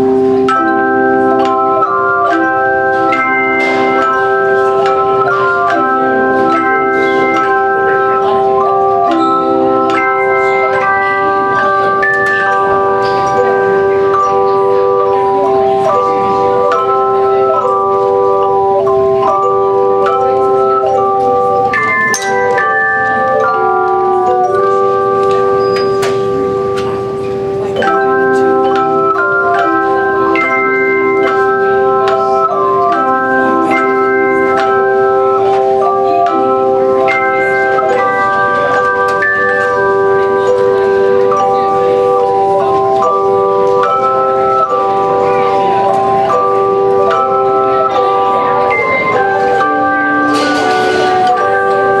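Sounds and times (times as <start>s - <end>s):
handbell choir playing a tune: 0.0s - 52.0s.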